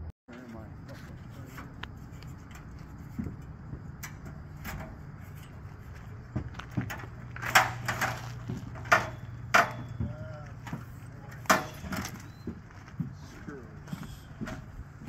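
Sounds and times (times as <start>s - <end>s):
steady low hum: 0.3s - 15.0s
knocks and clanks on steel frame: 0.4s - 15.0s.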